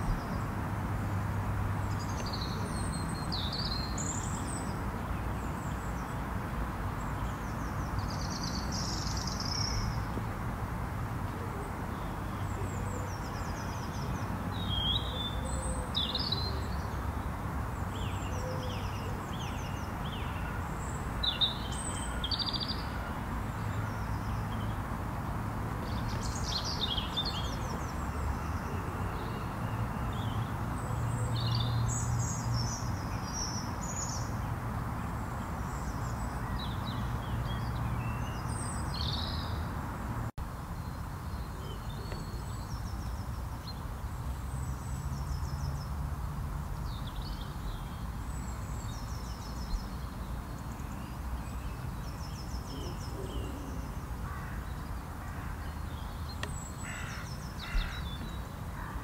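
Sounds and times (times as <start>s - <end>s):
small birds chirping and singing: 1.8s - 6.2s, 11.6s - 24.9s, 25.8s - 39.8s, 40.4s - 46.0s, 46.8s - 59.0s.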